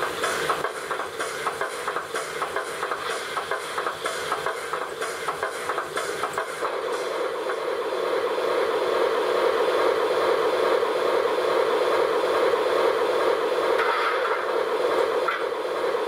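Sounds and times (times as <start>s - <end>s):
steam hiss from speaker: 0.0s - 13.7s.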